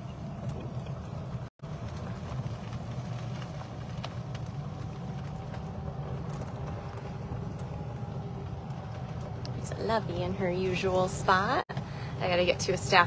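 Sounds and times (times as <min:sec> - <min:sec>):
golf cart running hum: 0:00.0 - 0:13.0.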